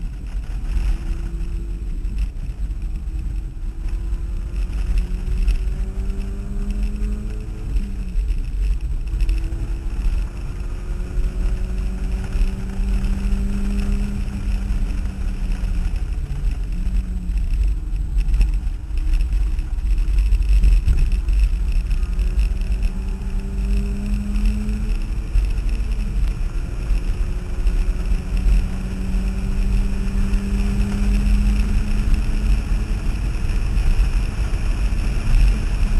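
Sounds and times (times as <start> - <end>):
car engine accelerating: 0.0 - 35.9
heavy low rumble: 0.0 - 35.9.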